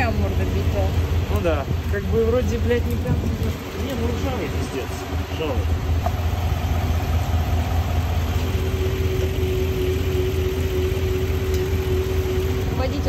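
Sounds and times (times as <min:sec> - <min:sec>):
car engine idling: 0:00.0 - 0:13.0
steady higher hum: 0:00.0 - 0:13.0.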